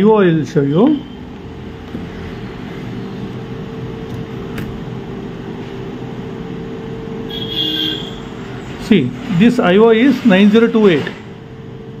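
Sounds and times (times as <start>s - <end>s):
machine hum with held tone: 0.0s - 9.3s, 11.2s - 12.0s.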